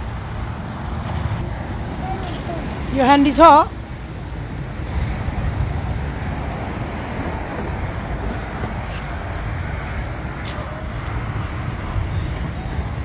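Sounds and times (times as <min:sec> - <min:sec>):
motorway traffic rumble: 0:00.0 - 0:13.0
wind buffeting microphone: 0:00.0 - 0:13.0.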